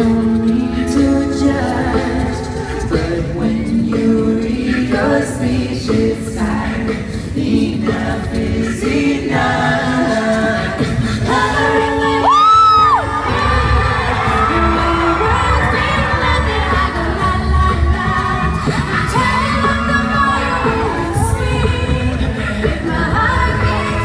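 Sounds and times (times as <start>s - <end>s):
a cappella group singing: 0.0s - 24.0s
deep vocal bass line: 0.0s - 24.0s.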